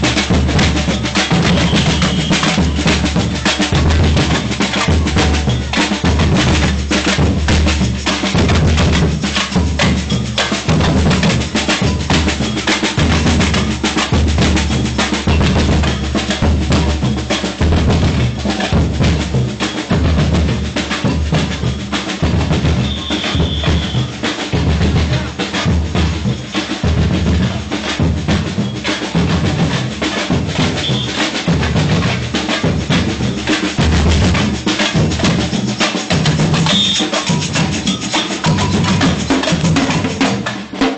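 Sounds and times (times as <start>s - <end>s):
drum ensemble playing: 0.0s - 40.9s.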